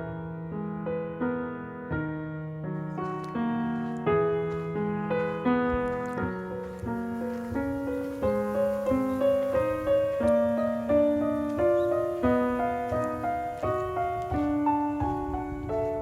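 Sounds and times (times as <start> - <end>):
gentle piano playing: 0.0 - 16.0.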